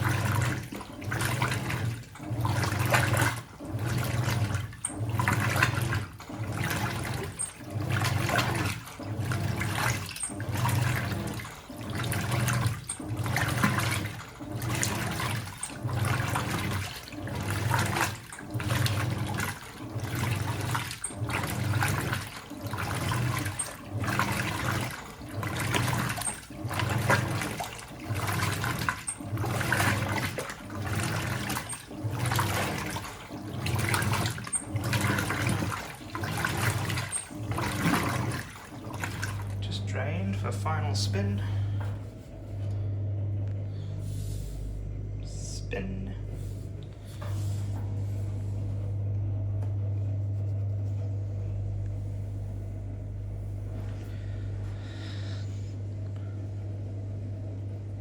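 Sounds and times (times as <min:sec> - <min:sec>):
low motor hum: 0:00.0 - 0:58.0
washing machine agitator sloshing: 0:00.0 - 0:58.0.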